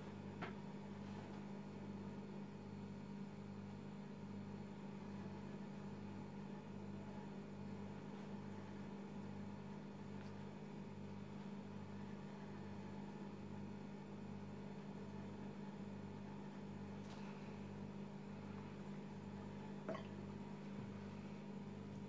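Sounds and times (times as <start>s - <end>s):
throbbing electrical hum: 0.0s - 22.0s.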